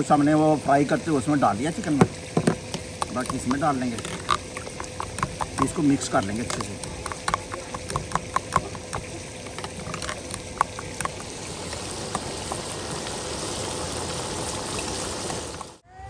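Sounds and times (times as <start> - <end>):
food sizzling in oil: 0.0 - 15.8.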